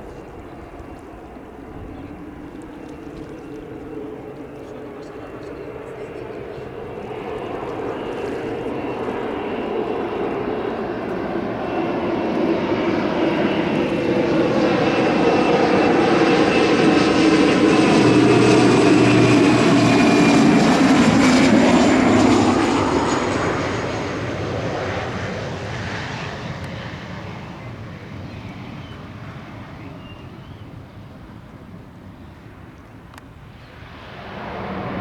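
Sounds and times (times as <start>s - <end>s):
turboprop aircraft passing: 0.0s - 35.0s.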